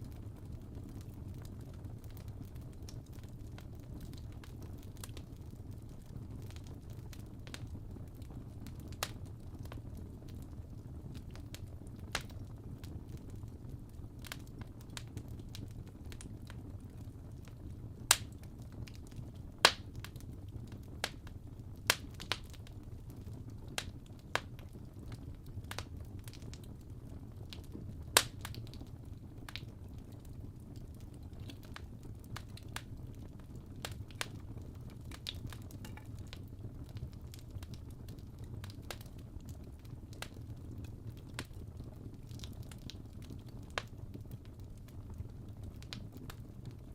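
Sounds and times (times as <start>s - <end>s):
low rumble of fire: 0.0s - 46.9s
wood fire crackling: 0.0s - 46.9s.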